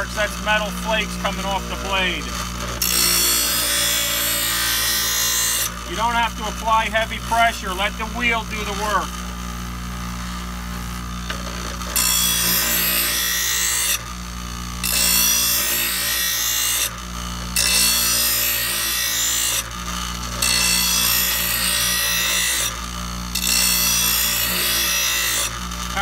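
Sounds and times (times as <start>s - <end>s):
bench grinder motor hum: 0.0s - 26.0s.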